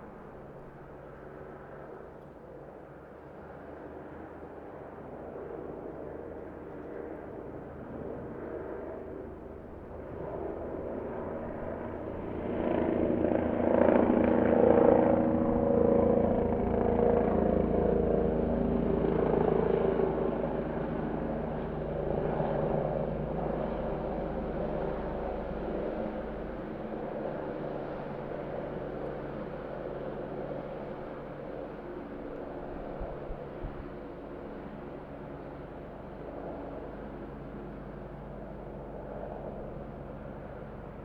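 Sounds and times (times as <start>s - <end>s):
helicopter flying by: 0.0s - 41.0s.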